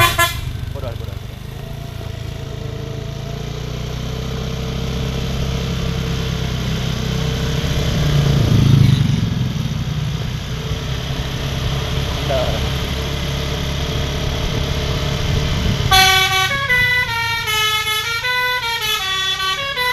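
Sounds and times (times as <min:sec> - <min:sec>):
vehicle engine passing: 0:00.0 - 0:19.9.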